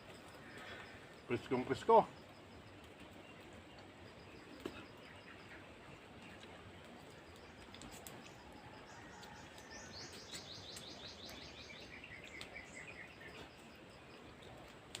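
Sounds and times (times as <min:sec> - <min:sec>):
quiet outdoor background noise: 0:00.0 - 0:15.0.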